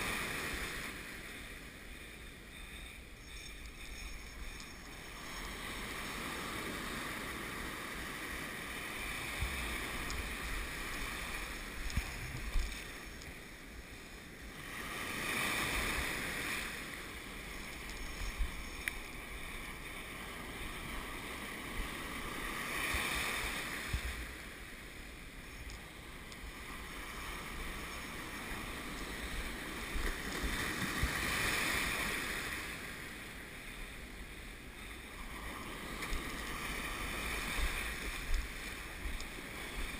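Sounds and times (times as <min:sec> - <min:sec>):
ocean surf breaking: 0:00.0 - 0:39.9
wind rumble on microphone: 0:00.0 - 0:39.9.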